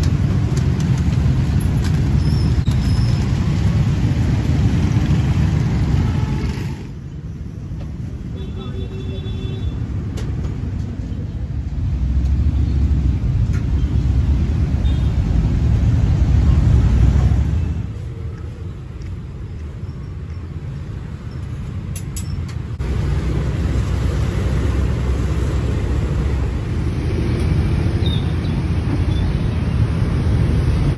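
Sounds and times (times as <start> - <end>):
street traffic rumble: 0.0 - 30.9.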